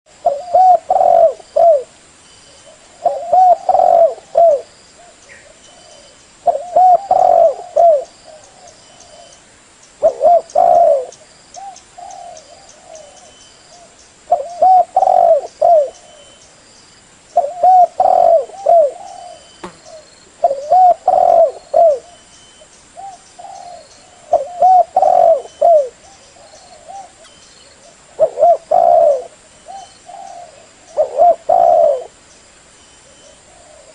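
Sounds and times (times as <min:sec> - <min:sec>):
dove cooing: 0:00.1 - 0:01.9, 0:02.5 - 0:09.4, 0:10.0 - 0:16.4, 0:17.4 - 0:22.3, 0:23.0 - 0:32.2, 0:33.0 - 0:33.9.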